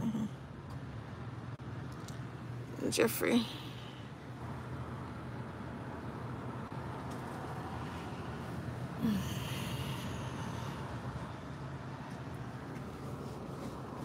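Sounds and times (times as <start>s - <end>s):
vehicle cabin hum: 0.0s - 14.0s.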